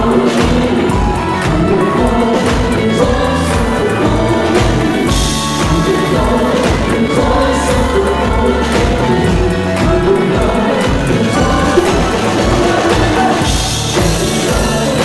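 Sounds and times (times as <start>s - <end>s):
group vocals: 0.0s - 15.0s
live band playing: 0.0s - 15.0s.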